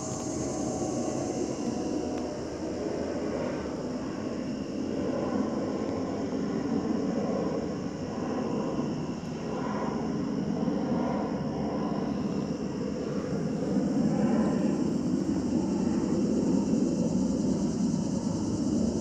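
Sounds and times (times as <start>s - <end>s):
airplane engine rumble: 0.0s - 19.0s
insects trilling: 0.0s - 19.0s.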